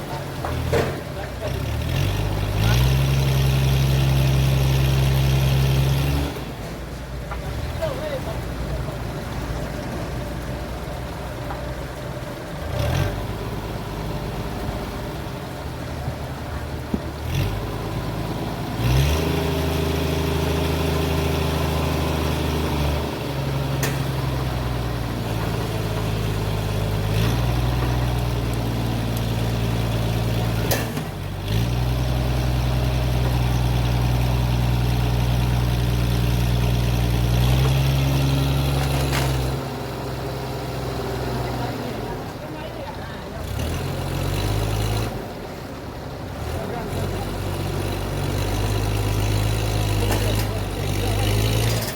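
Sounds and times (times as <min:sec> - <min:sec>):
engine running under changing load: 0:00.0 - 0:51.9.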